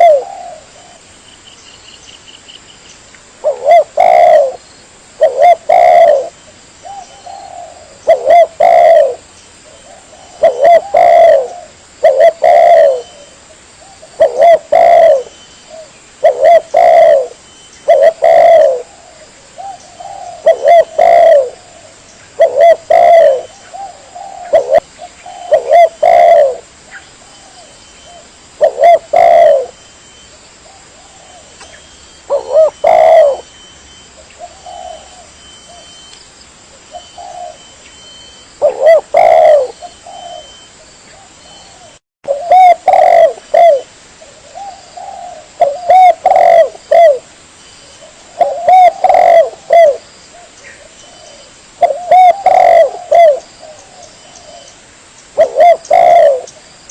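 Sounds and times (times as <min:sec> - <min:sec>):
dove cooing: 0:00.0 - 0:01.1, 0:03.4 - 0:04.6, 0:05.2 - 0:36.0, 0:36.9 - 0:47.3, 0:47.9 - 0:54.7, 0:55.4 - 0:56.6.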